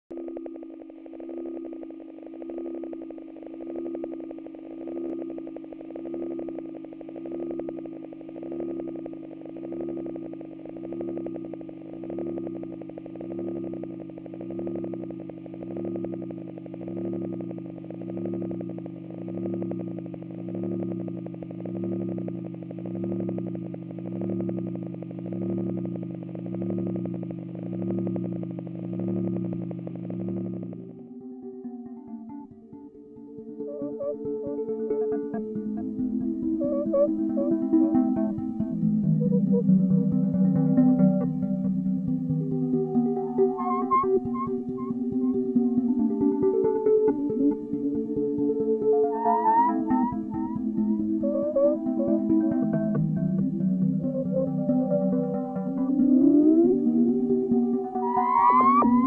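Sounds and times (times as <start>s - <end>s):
pulsing electronic ambient drone: 0.1s - 59.0s.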